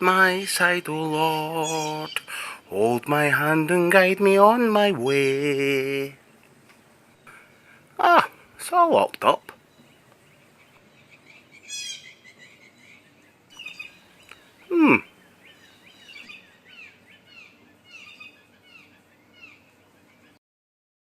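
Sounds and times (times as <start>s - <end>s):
birds chirping and trilling: 0.0s - 20.4s.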